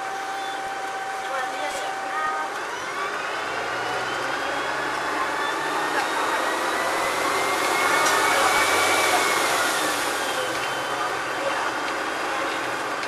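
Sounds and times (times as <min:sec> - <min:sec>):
bus engine running: 0:00.0 - 0:13.0
high drivetrain whine: 0:00.0 - 0:13.0.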